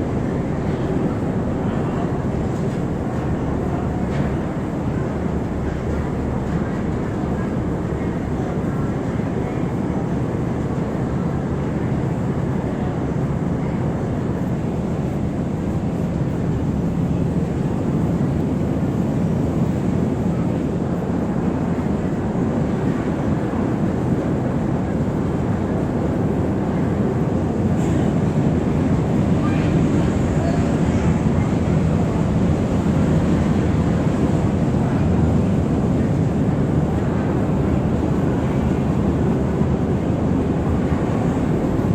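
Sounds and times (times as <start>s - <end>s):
ferry engine rumbling: 0.0s - 41.9s.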